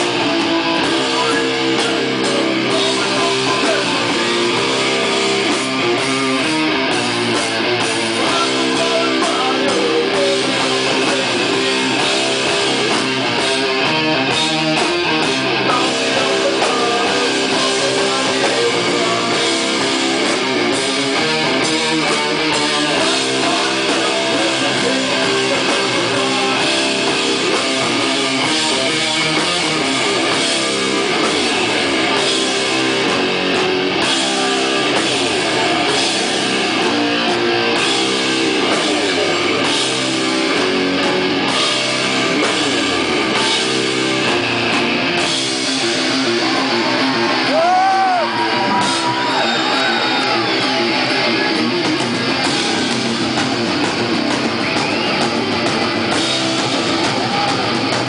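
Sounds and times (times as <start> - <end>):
live heavy metal band: 0.0 - 58.0.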